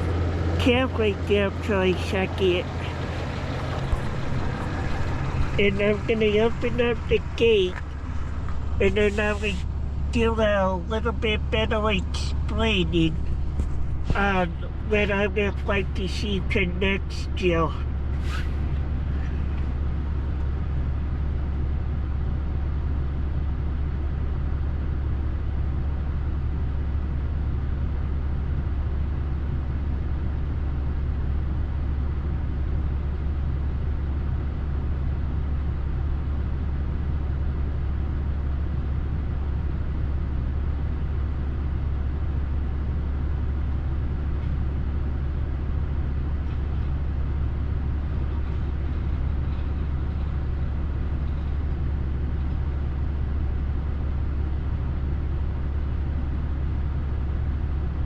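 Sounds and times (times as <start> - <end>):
vehicle engine idling: 0.0 - 27.9, 32.2 - 58.0.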